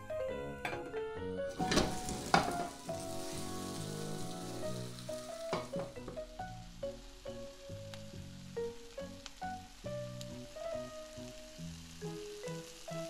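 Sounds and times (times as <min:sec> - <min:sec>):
soft background music: 0:00.0 - 0:13.0
pancake sizzling in oil: 0:01.5 - 0:13.0.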